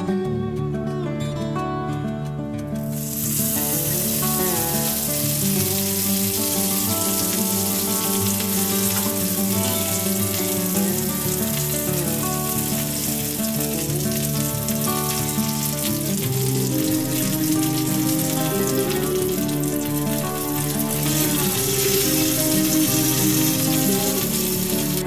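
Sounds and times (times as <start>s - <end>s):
instrumental background music: 0.0s - 25.0s
leaves sizzling in hot oil: 2.8s - 25.0s.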